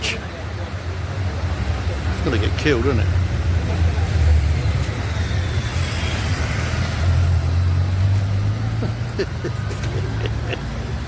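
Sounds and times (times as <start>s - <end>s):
street traffic: 0.0s - 11.0s
vehicle engine rumbling: 0.0s - 11.0s.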